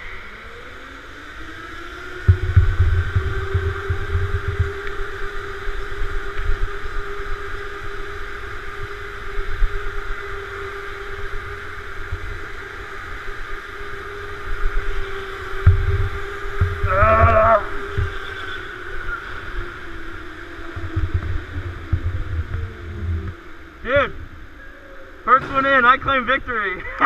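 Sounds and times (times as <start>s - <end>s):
electric motor whining: 0.3s - 25.4s
wind buffeting camera: 2.1s - 24.6s
vibration rumble: 2.2s - 24.6s.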